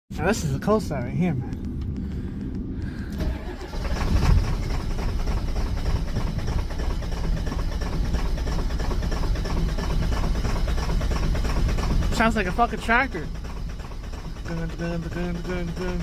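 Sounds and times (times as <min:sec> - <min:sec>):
diesel engine starting and idling: 0:00.2 - 0:16.0.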